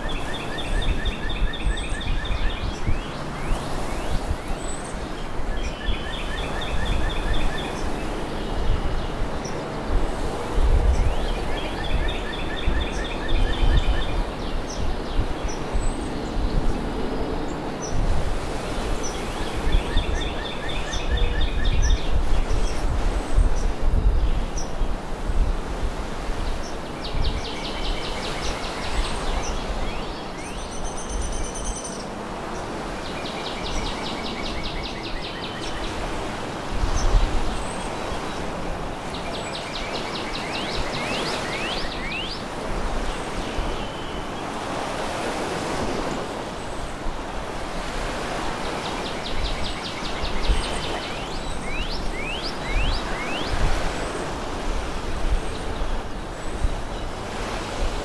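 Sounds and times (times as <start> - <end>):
waves washing on beach: 0.0 - 58.0
wind buffeting microphone: 0.0 - 58.0.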